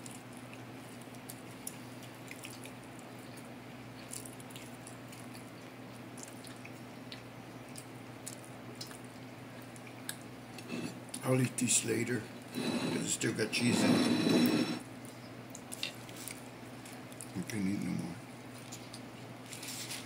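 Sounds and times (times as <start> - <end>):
person chewing pizza: 0.0 - 11.3, 12.3 - 17.4, 18.4 - 20.0
steady low hum: 0.0 - 19.6.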